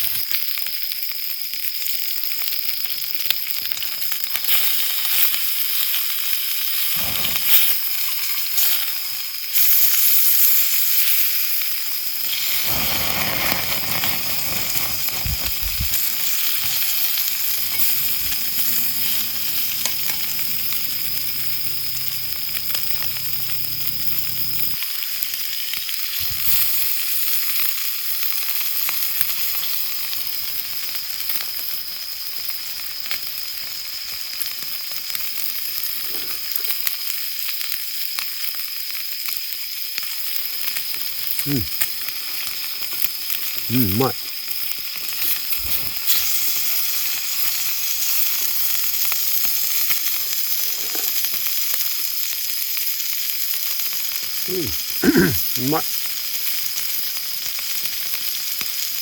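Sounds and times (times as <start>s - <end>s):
food sizzling in a frying pan: 0.0s - 59.0s.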